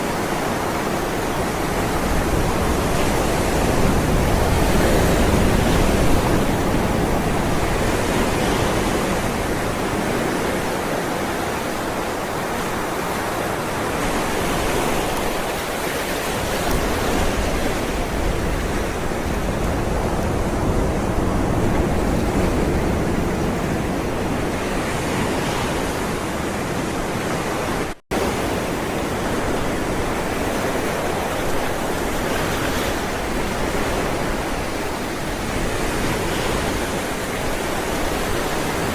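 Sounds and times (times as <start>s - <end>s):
ocean waves washing in: 0.0s - 38.9s.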